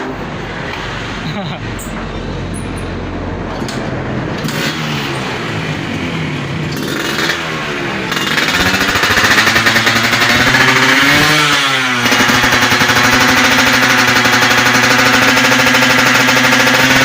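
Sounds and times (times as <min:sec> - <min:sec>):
motorcycle engine crackling: 0:01.7 - 0:17.0.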